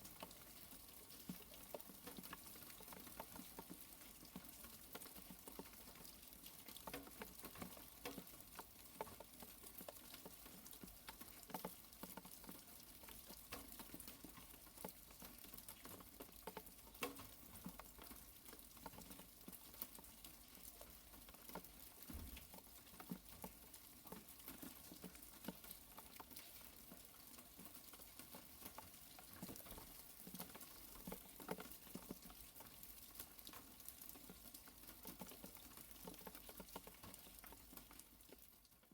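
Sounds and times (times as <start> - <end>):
light rain pattering: 0.0 - 38.9
small drip ticks: 0.0 - 38.9.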